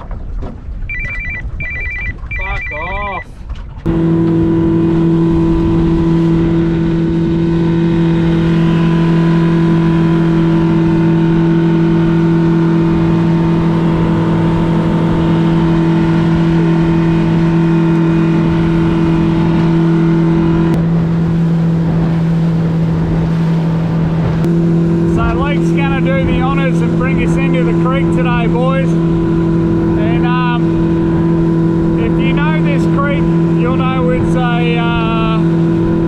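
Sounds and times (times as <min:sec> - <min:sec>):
outboard motor running: 0:00.0 - 0:36.0
water and wind noise: 0:00.0 - 0:36.0.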